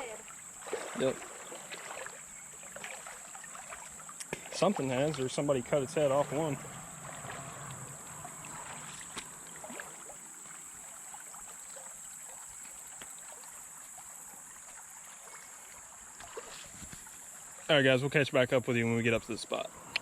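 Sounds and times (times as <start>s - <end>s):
small splashes and clicks: 0.0s - 5.4s, 6.3s - 17.7s
creek water flowing: 0.0s - 20.0s.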